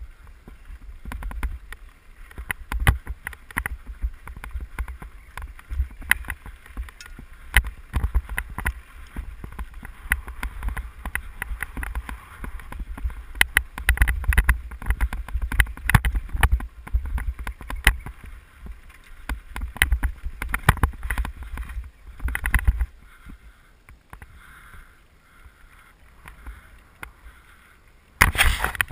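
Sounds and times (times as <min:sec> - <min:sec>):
wind buffeting microphone: 0:00.0 - 0:23.6
bicycle rattling over bumps: 0:00.0 - 0:28.9.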